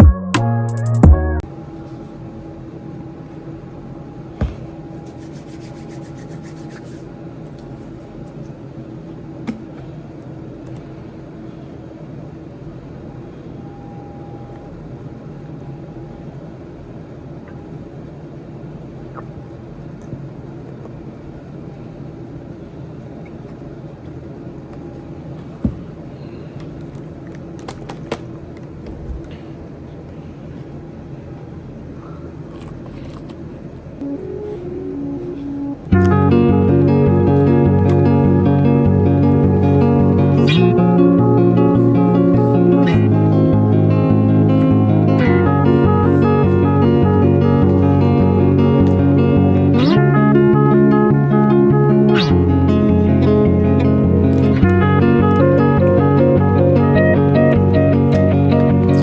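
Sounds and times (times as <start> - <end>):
background hum with faint tones: 0.0 - 59.0.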